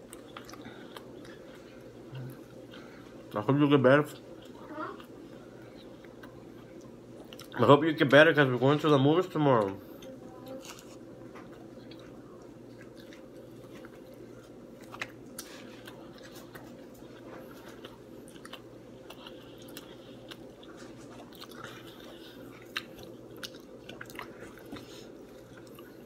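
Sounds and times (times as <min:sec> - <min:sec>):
person chewing pizza: 0:00.0 - 0:26.0
steady low hum: 0:00.0 - 0:26.0.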